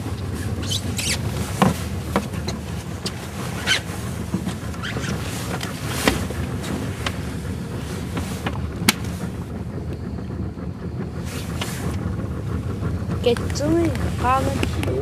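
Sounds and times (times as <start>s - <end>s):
knocks and clatters in boat: 0.0s - 15.0s
motorboat engine running: 0.0s - 15.0s.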